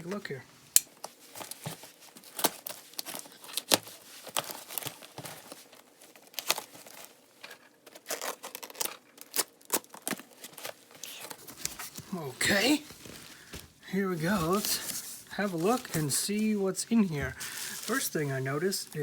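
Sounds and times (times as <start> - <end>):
cardboard box rustling and crinkling: 1.0 - 19.0.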